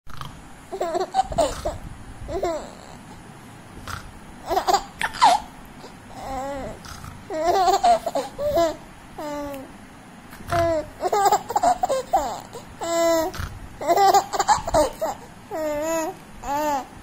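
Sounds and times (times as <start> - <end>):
baby babbling and laughing: 0.7 - 3.2, 4.4 - 9.8, 10.5 - 17.0.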